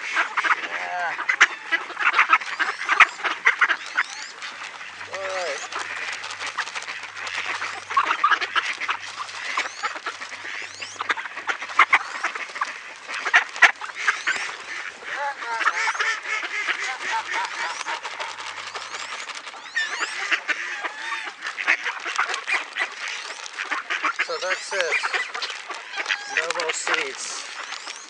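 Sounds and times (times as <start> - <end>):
ducks quacking: 0.0 - 28.0.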